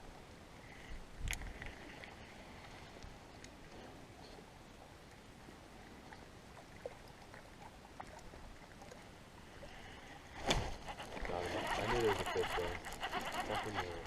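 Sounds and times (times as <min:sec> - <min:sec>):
faint water and canoe sounds: 0:00.0 - 0:14.0.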